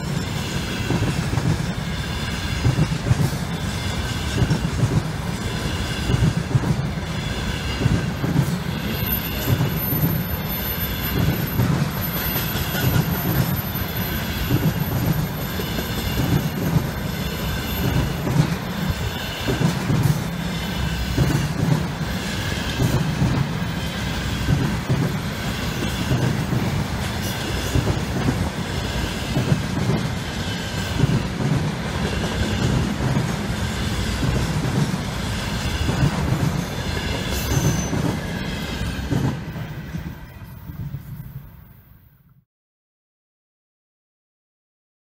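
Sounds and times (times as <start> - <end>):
train wheels clattering over rails: 0.0 - 40.2.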